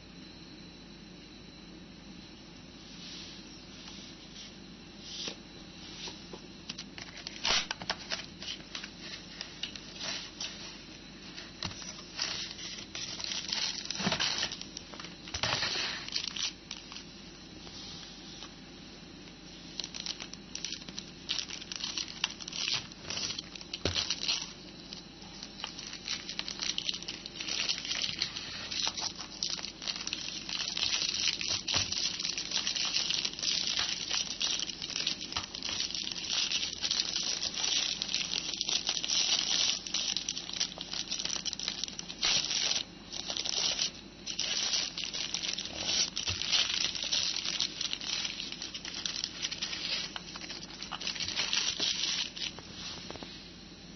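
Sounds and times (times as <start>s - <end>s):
plastic bag crinkling: 6.7s - 17.1s, 19.6s - 53.2s.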